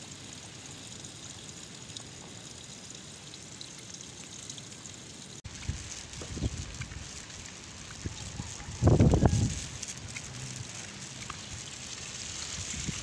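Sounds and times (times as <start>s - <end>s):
heavy rain on leaves and water: 0.0s - 13.0s.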